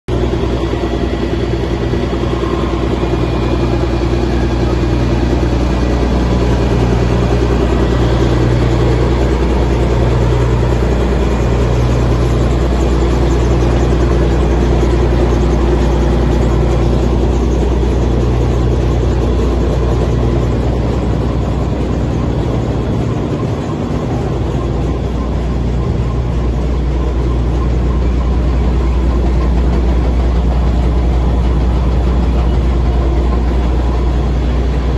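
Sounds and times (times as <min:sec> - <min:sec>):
deep low hum: 0:00.1 - 0:34.9
jaw crusher running: 0:00.2 - 0:34.9.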